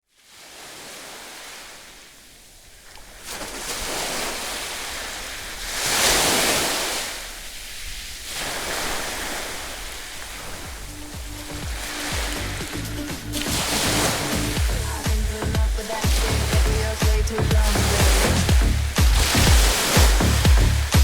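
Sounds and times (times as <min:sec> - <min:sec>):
ocean waves breaking: 0:00.2 - 0:21.0.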